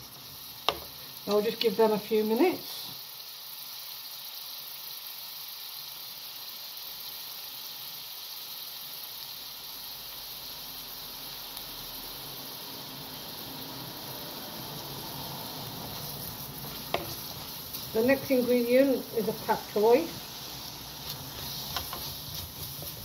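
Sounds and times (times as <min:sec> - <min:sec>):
onion sizzling in a frying pan: 0:00.0 - 0:23.0.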